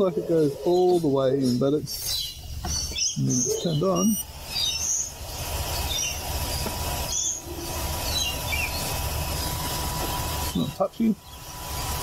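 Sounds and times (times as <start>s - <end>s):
cooling fans hissing: 0.0s - 12.0s
parrots chirping: 0.0s - 12.0s.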